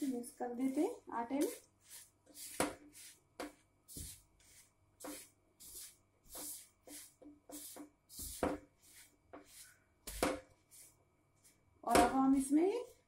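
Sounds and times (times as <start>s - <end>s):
hand rustling flour in a bowl: 0.0s - 11.6s.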